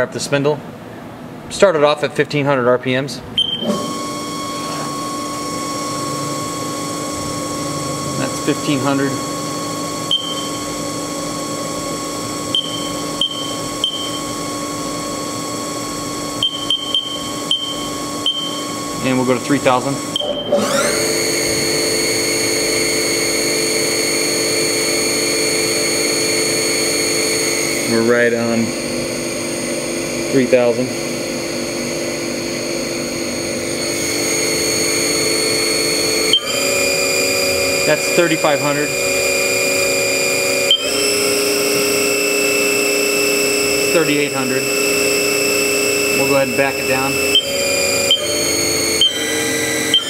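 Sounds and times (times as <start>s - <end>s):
mill spindle humming and whining: 3.2s - 50.0s.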